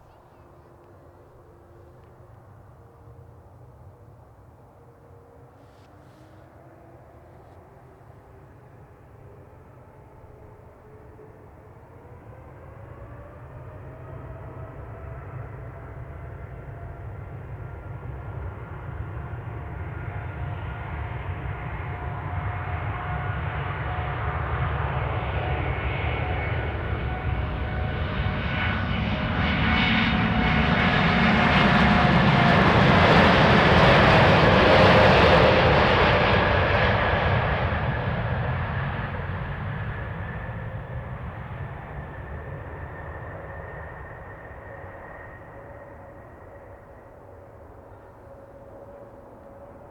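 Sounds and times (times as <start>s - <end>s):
jet engine whine: 0.0s - 49.9s
jet airliner taking off: 5.4s - 49.9s.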